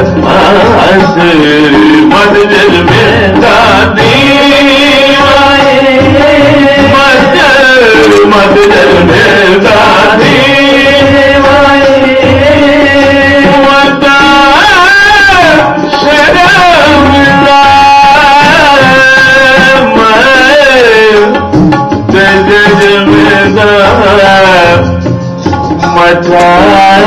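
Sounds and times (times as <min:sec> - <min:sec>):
harmonium: 0:00.0 - 0:27.0
man singing: 0:00.0 - 0:27.0
tabla rhythm: 0:00.0 - 0:27.0.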